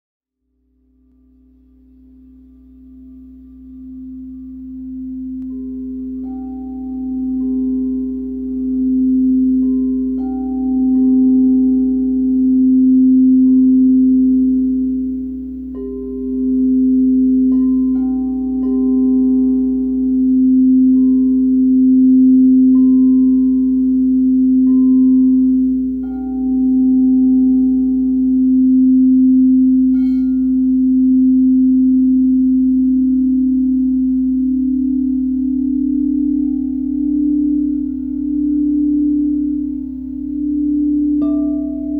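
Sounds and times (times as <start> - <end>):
low singing bowl sounding: 0.4 - 41.9
higher singing bowls struck: 1.0 - 41.9.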